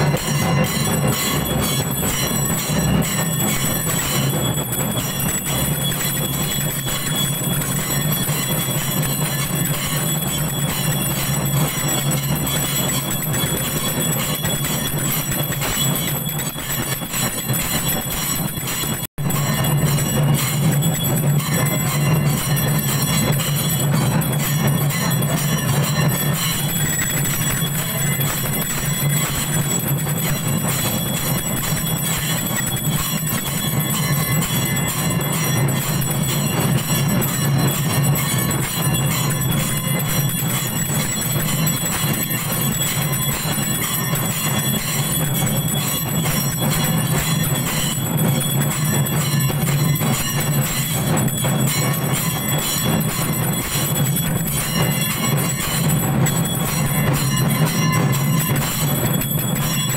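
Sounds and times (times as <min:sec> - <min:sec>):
bells clanging rapidly: 0:00.0 - 0:59.9.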